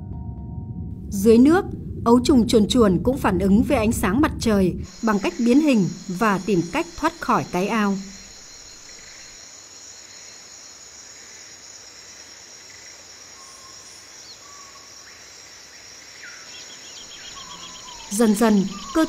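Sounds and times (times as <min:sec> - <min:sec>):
insect chorus: 0:02.2 - 0:19.0.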